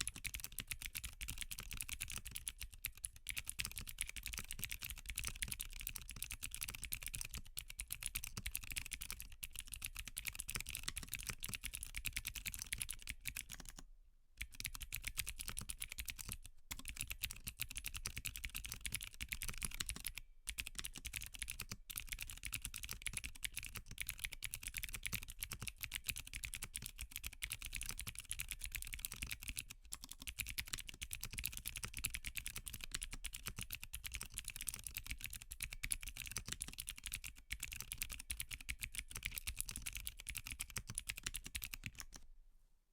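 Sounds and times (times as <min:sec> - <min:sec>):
mechanical keyboard typing: 0:00.0 - 0:13.8, 0:14.4 - 0:42.2.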